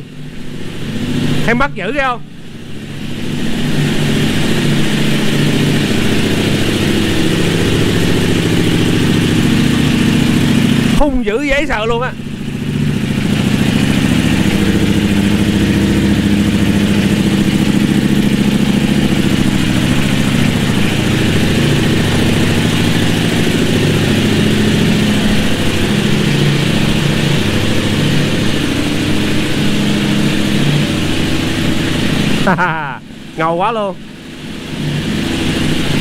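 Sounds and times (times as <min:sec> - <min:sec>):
superbike engine idling: 0:00.0 - 0:36.0.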